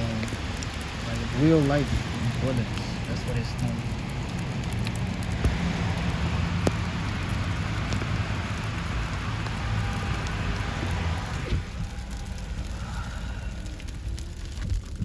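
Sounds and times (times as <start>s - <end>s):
low road and engine rumble: 0.0s - 15.0s.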